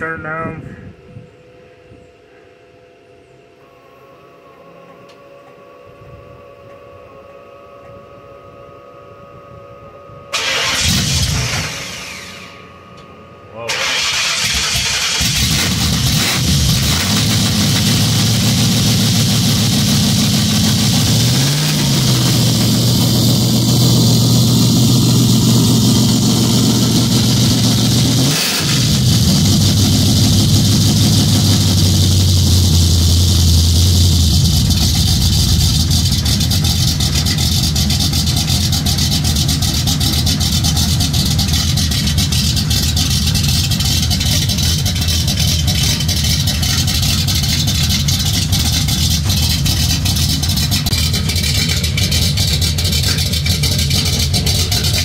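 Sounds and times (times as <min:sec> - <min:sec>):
car engine idling: 0:10.4 - 0:55.0.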